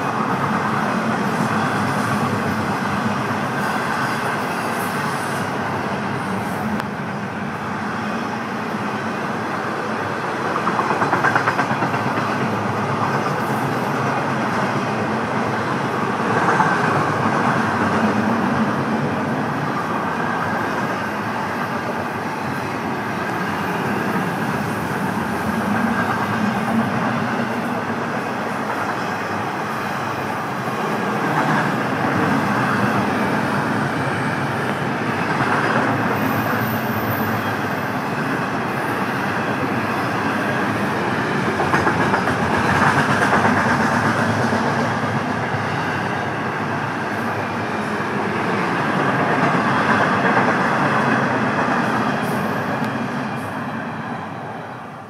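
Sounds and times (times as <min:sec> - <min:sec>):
freight train wheels rolling: 0:00.0 - 0:55.0.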